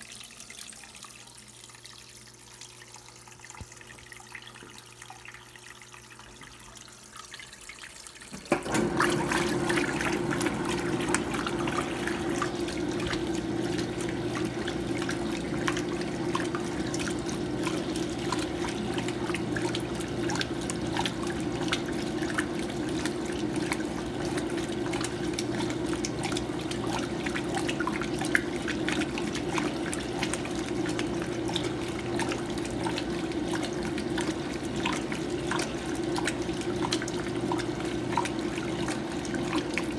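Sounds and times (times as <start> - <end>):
washing machine water rushing: 0.0 - 39.9
water splashes and drips: 0.0 - 39.9.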